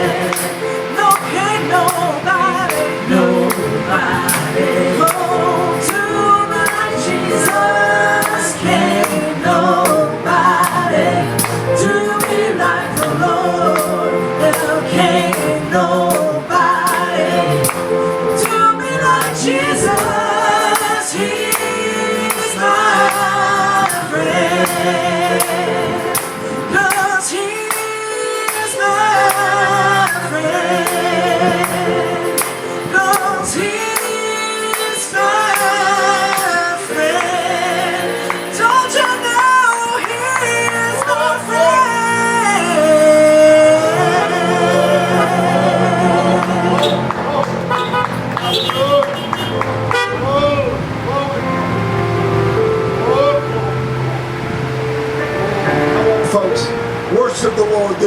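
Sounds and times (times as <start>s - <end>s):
gospel singing with accompaniment: 0.0s - 58.0s.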